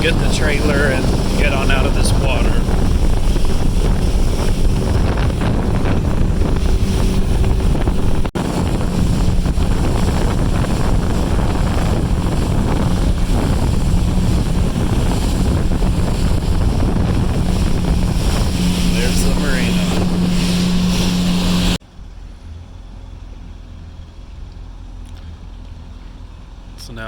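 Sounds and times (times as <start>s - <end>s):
water rushing: 0.0s - 21.8s
wind buffeting microphone: 0.0s - 26.8s
boat engine running: 0.0s - 27.0s.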